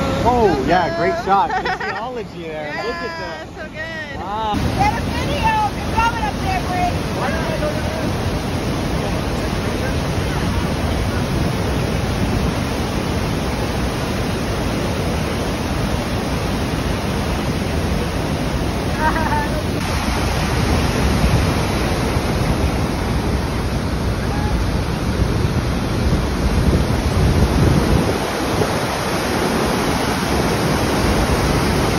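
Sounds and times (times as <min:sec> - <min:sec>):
waterfall rushing: 0:00.0 - 0:31.9
wind buffeting microphone: 0:04.6 - 0:31.9.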